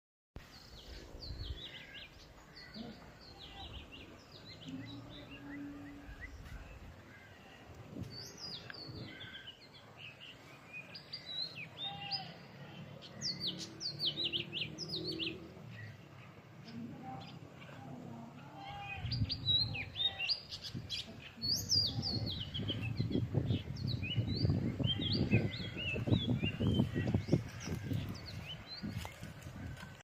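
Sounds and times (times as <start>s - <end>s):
songbirds chirping: 0.4s - 30.0s.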